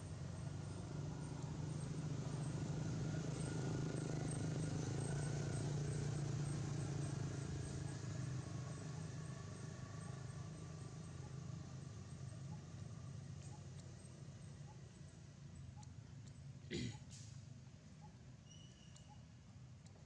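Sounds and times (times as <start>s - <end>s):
low outdoor hum: 0.0s - 20.0s.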